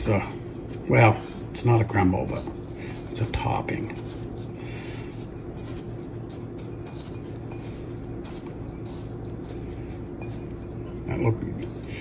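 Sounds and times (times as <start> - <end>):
fingertips scratching crumbs in bowl: 0.0 - 12.0.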